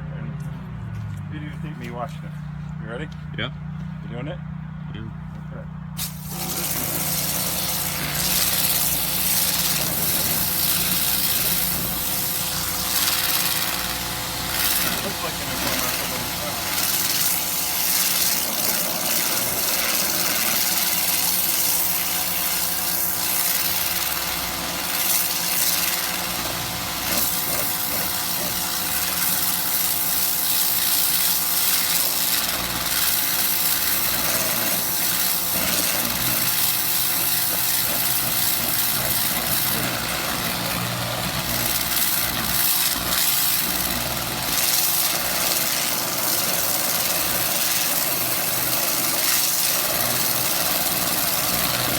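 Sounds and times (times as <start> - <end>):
pressure washer motor hum: 4.7 - 51.9
water spray hissing: 6.0 - 51.9.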